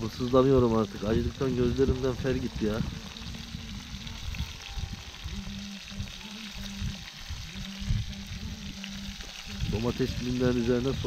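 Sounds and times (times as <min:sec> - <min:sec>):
fish frying in oil: 0:00.0 - 0:11.0.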